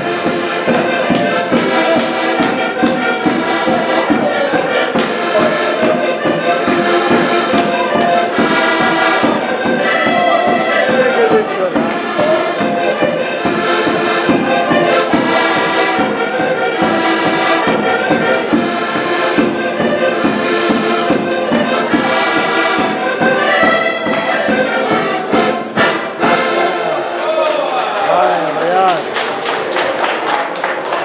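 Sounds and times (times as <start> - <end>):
strummed string instrument: 0.0 - 27.2
accordions playing folk tune: 0.0 - 27.4.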